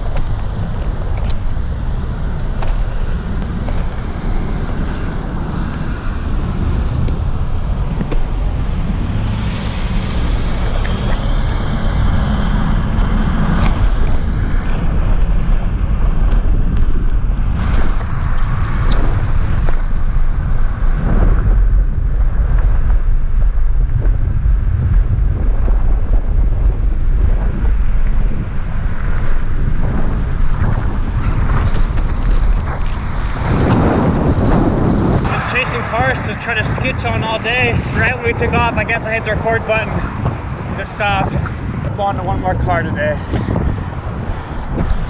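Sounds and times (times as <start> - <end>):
car and road noise: 0.0 - 45.0
wind rumble on microphone: 0.0 - 45.0.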